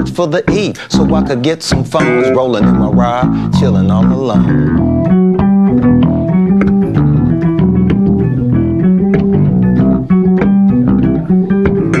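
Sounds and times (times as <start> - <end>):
background music with beat: 0.0 - 12.0
bass guitar line: 0.0 - 12.0.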